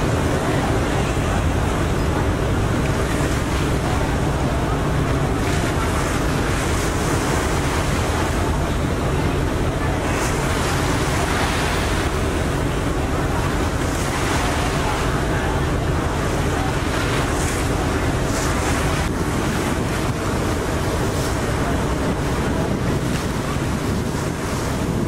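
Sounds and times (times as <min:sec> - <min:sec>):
ferry engine drone: 0:00.0 - 0:25.0
water rushing past a hull: 0:00.0 - 0:25.0
wind buffeting microphone: 0:00.0 - 0:25.0.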